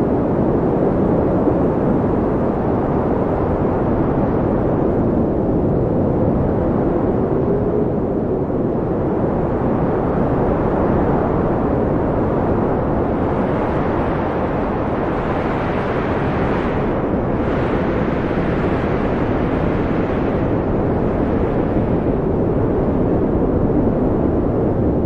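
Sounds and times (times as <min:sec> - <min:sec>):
wind blowing: 0:00.1 - 0:25.0.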